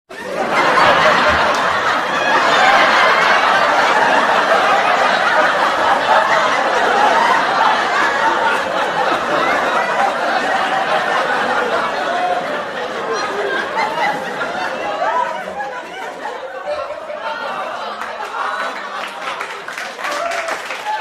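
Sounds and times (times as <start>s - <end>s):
studio audience laughing: 0.1s - 21.0s.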